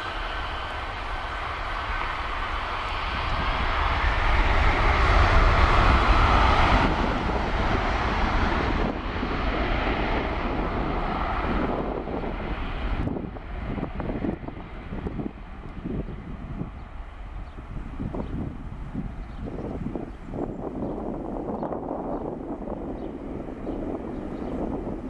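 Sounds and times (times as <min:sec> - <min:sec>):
jet engines at takeoff thrust: 0:00.0 - 0:25.0.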